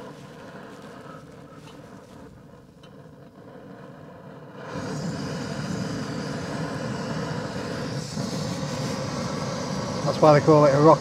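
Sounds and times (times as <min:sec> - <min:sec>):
gas stove burning with rushing noise: 0:00.0 - 0:11.0.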